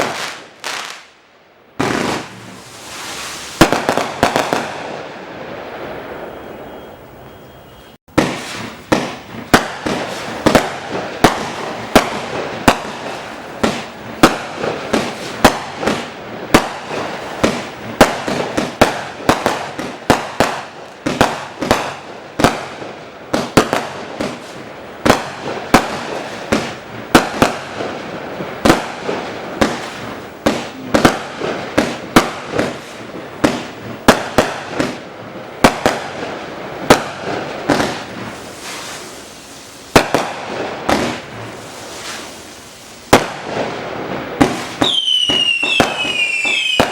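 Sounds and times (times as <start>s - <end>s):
fireworks crackling: 0.0s - 7.0s, 8.0s - 46.9s
fireworks barrage: 0.0s - 7.4s, 8.0s - 46.9s.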